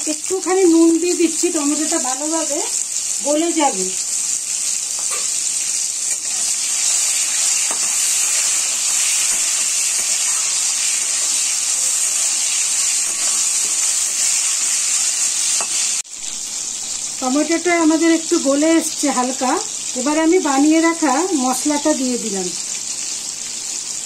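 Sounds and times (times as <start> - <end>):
tomato sizzling in hot oil: 0.0 - 24.0.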